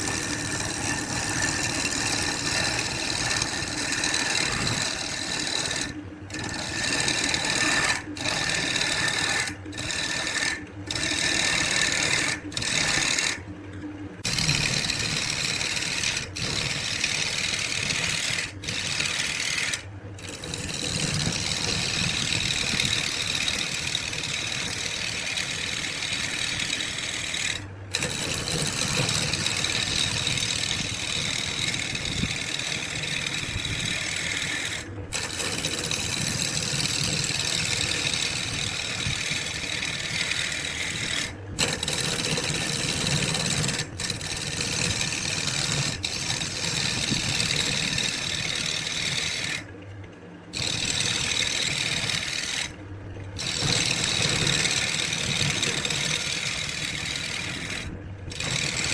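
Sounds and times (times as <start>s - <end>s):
power tool grinding wood: 0.0s - 13.4s, 14.2s - 49.7s, 50.5s - 52.8s, 53.4s - 58.9s.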